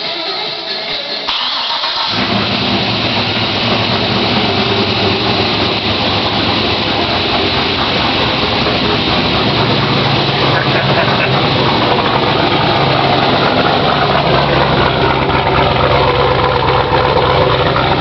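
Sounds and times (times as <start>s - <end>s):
truck engine running: 0.0s - 18.0s
engine starter cranking: 0.4s - 18.0s.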